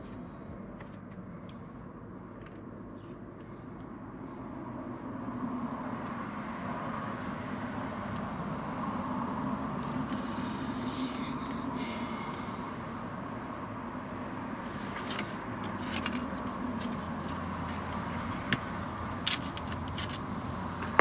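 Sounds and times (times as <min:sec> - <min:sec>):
motor vehicle running: 0:00.0 - 0:21.0.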